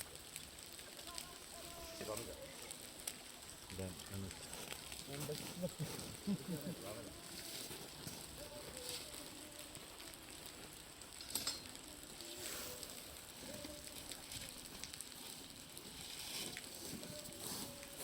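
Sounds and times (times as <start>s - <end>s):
meltwater dripping and splashing: 0.0s - 18.0s.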